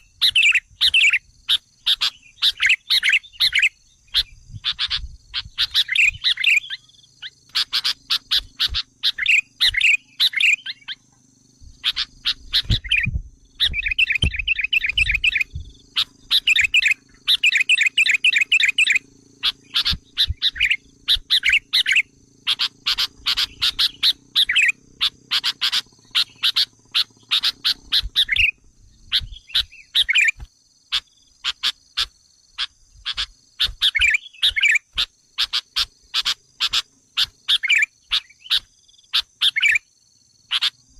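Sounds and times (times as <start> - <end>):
bulbul chattering calls and trills: 0.0 - 40.9.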